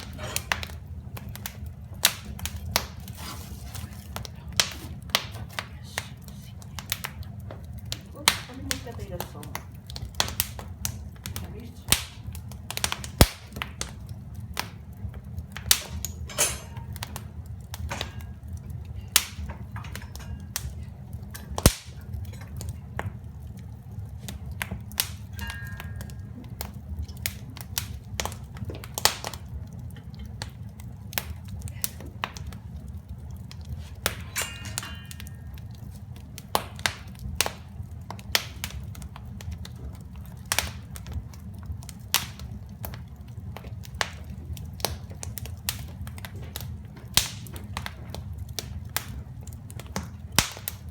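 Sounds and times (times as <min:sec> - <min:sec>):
steady low rumble: 0:00.0 - 0:47.3
wood fire crackling and popping: 0:00.0 - 0:50.9.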